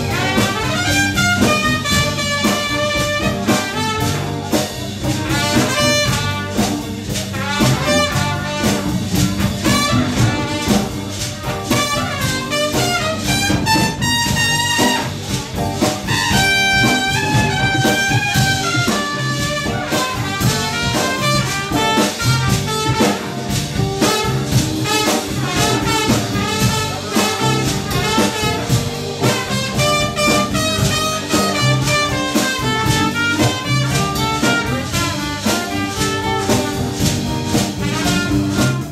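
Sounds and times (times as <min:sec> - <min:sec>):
jazz horns and drums: 0:00.0 - 0:38.9.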